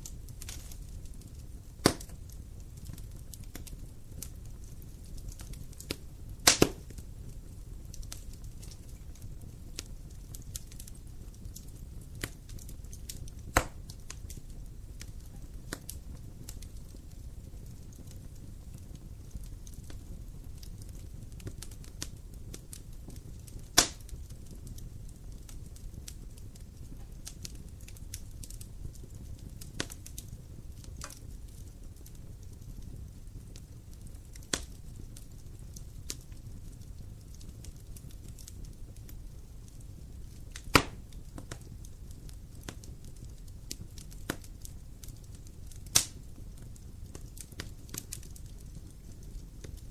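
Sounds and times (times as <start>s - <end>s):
low rumble of burning: 0.0s - 49.9s
wood fire crackling and popping: 0.0s - 49.9s.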